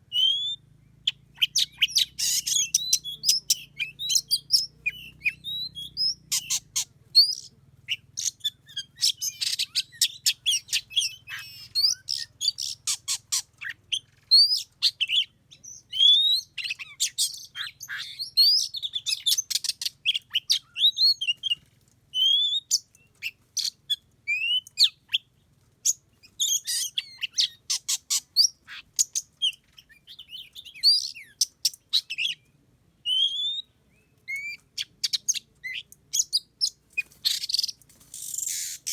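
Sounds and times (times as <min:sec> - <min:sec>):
birds singing and calling: 0:00.0 - 0:38.9.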